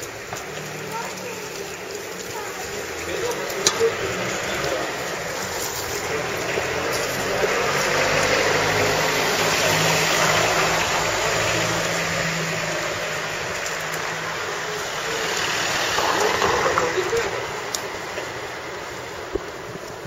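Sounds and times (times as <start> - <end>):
outdoor noise: 0.0 - 20.0.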